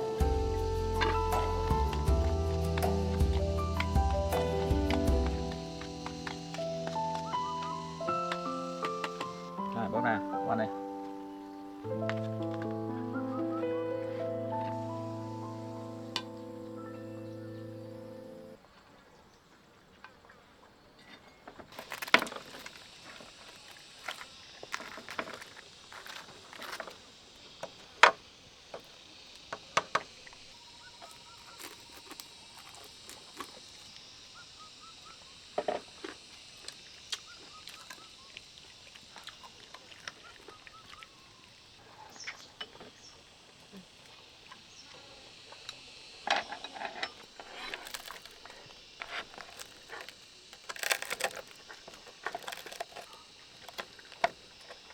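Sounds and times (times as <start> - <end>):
steady high outdoor hiss: 0.0 - 54.9.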